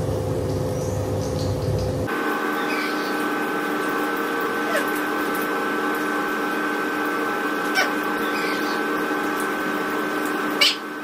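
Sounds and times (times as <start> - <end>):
appliance humming: 0.0 - 11.0.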